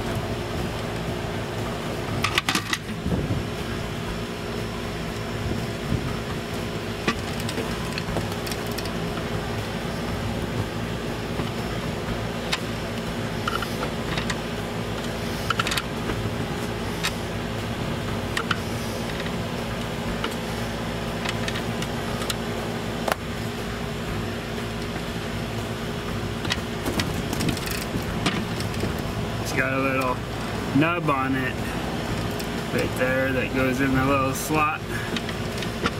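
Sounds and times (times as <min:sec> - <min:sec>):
mechanical hum: 0:00.0 - 0:35.9.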